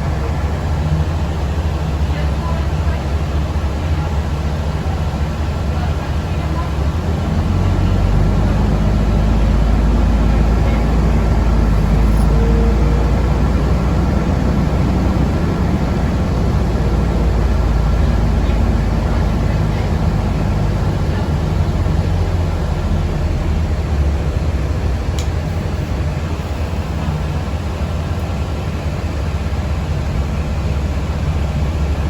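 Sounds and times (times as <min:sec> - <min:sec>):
vehicle cabin rumble: 0:00.0 - 0:32.0.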